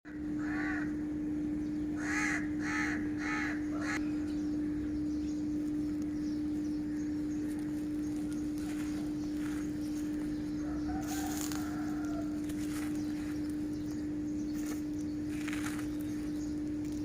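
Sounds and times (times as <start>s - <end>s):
bird calling: 0.1s - 17.0s
steady low hum: 0.1s - 17.0s.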